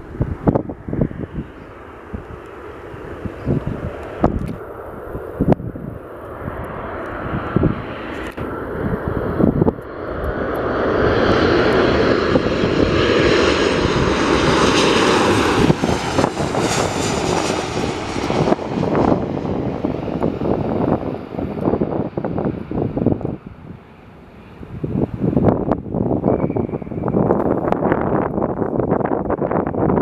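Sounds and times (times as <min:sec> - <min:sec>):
jet engines landing: 0:00.0 - 0:30.0
wind buffeting microphone: 0:00.0 - 0:30.0.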